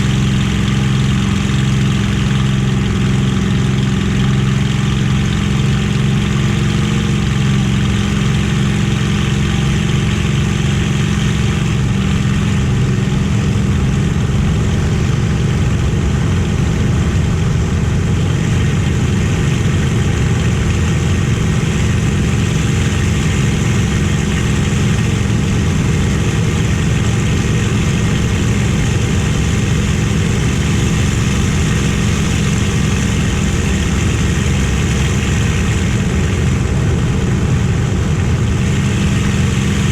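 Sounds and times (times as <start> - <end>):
piston aero engine droning: 0.0 - 39.9.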